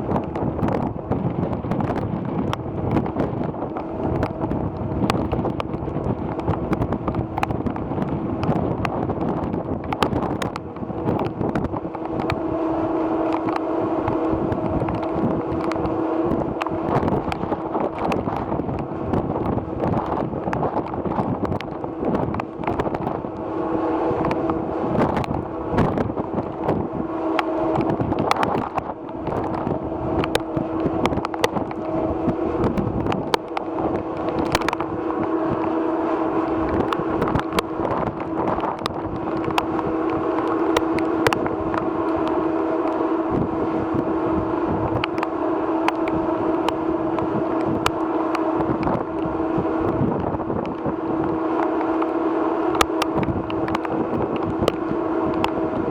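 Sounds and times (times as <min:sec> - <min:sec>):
ferry engines humming: 0:00.0 - 0:55.9
wind buffeting microphone: 0:00.0 - 0:55.9.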